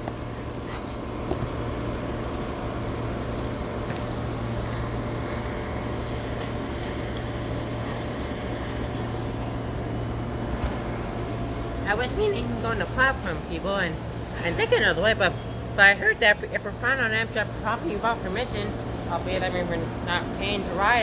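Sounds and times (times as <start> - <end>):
train low mechanical hum: 0.0 - 21.0.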